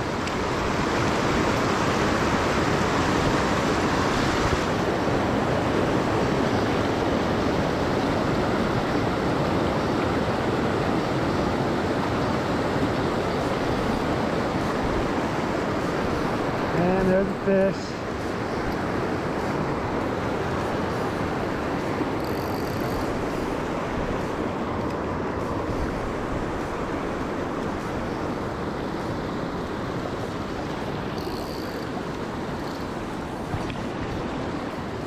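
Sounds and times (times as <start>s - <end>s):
creek rushing over boulders: 0.0s - 22.2s, 22.8s - 35.0s.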